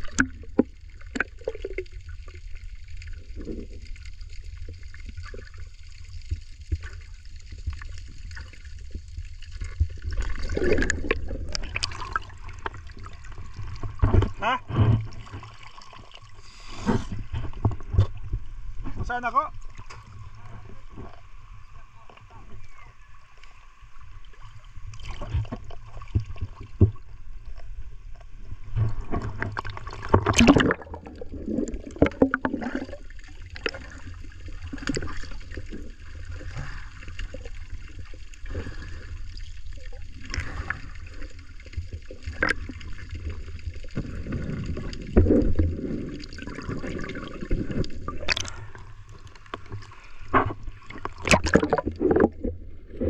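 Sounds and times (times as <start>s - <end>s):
water splashes and knocks: 0.0s - 2.4s, 4.6s - 21.2s, 24.3s - 53.0s
low underwater rumble: 0.0s - 53.0s
seawater sloshing and gurgling: 0.0s - 53.0s.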